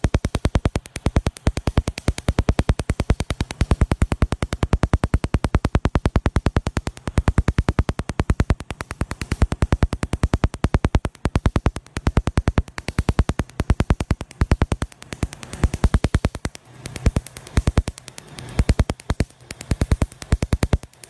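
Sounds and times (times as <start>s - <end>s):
laser firing rapid snapping pulses: 0.0s - 21.0s.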